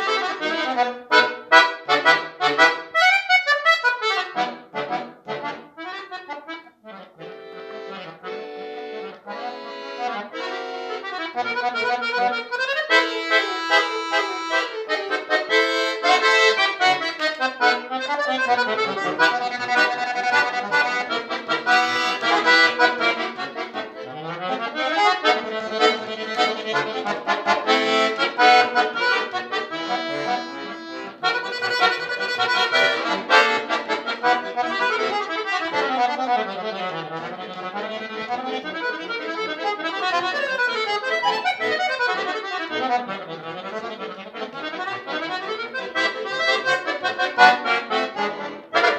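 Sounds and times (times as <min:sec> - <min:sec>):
accordion playing fast runs: 0:00.0 - 0:48.9.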